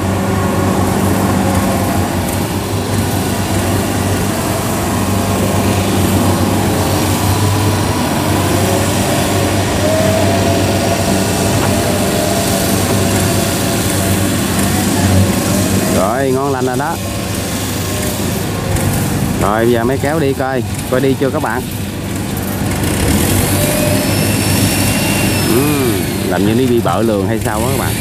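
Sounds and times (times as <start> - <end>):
combine harvester diesel engine: 0.0 - 28.0.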